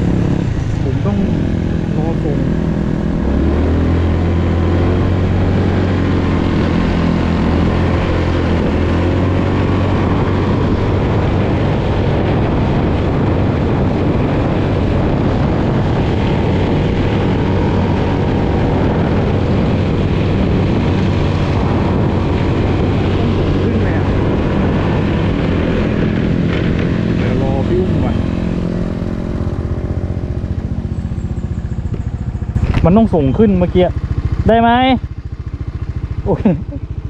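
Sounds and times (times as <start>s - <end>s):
scooter engine droning: 0.0s - 37.0s.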